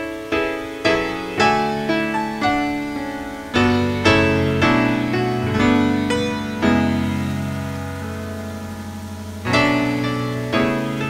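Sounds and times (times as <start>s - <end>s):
slow keyboard melody: 0.0s - 11.0s.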